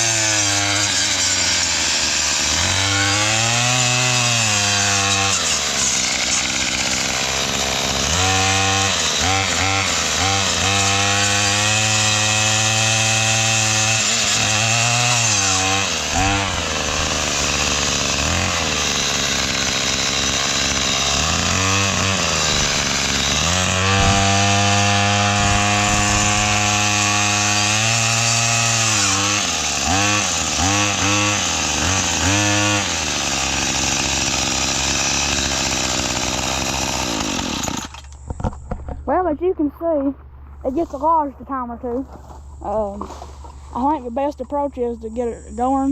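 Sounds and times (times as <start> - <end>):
string trimmer engine revving: 0.0 - 38.2
brush cutter blade cutting wood: 0.0 - 40.0, 40.6 - 45.9.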